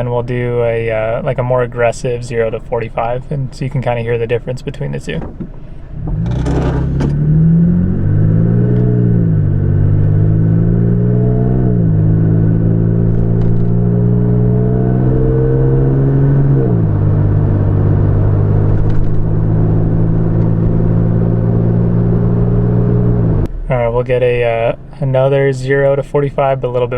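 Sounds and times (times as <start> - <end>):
truck engine and exhaust accelerating: 0.0 - 26.9.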